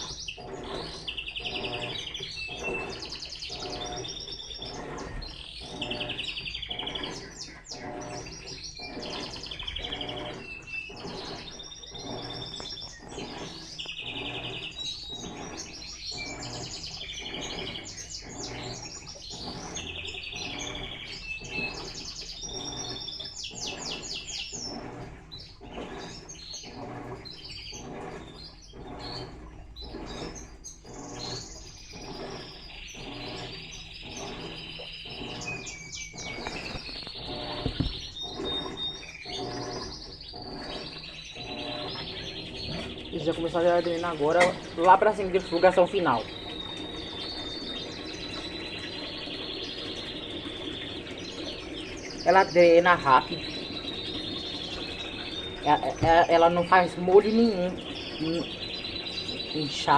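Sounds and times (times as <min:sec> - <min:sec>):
birds chirping and trilling: 0:00.0 - 0:59.9
washing machine water sloshing: 0:00.0 - 0:59.9.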